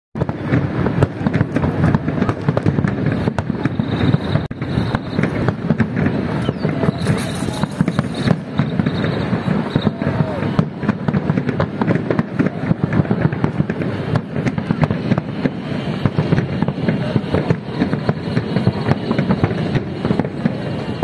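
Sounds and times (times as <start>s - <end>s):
fireworks crackling and banging: 0.2s - 21.0s.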